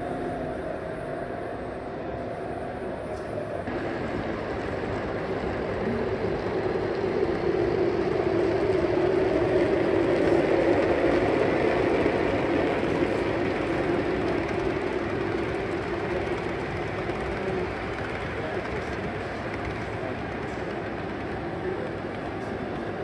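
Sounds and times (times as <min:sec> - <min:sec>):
model train rumbling past: 0:03.7 - 0:23.0.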